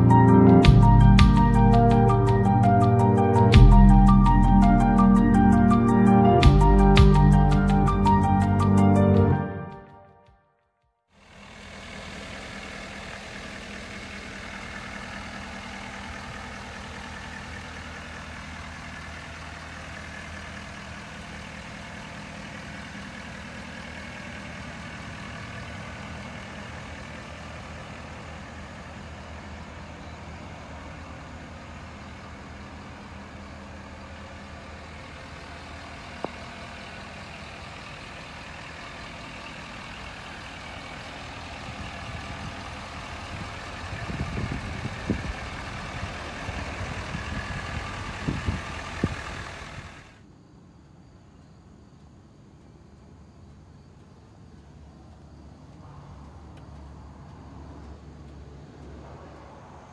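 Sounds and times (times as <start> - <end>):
diesel engine idling: 0.0 - 9.9, 11.1 - 50.2, 52.8 - 59.9.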